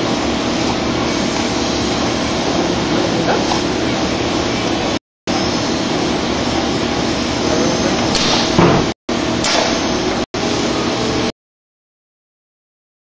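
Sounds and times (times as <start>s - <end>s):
factory machinery hum with hiss: 0.0s - 11.3s.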